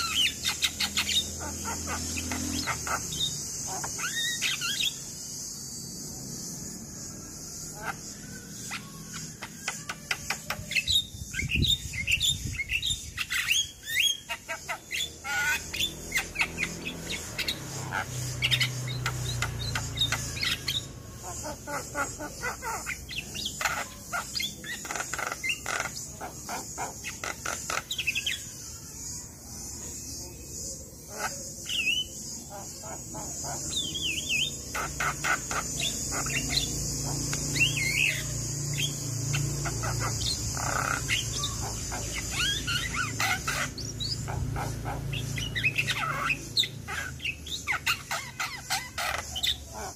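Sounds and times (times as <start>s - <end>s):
bird singing varied song: 0.0s - 49.9s.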